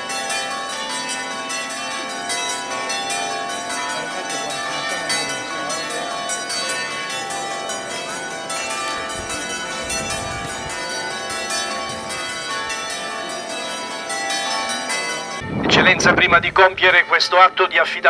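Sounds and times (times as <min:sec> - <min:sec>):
church bells pealing: 0:00.0 - 0:18.0.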